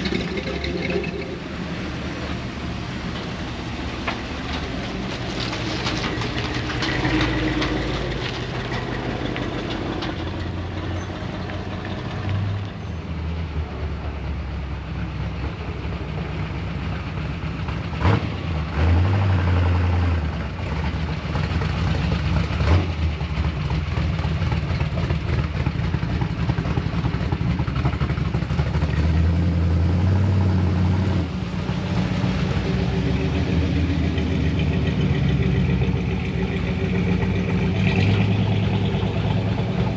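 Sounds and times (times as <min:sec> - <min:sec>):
truck engines idling: 0:00.0 - 0:29.3, 0:31.3 - 0:39.9.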